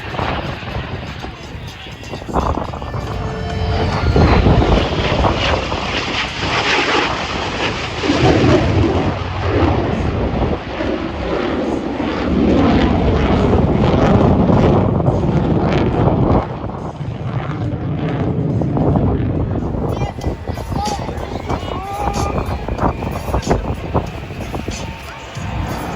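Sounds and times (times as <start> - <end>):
jet aircraft flying past: 0.0 - 25.9.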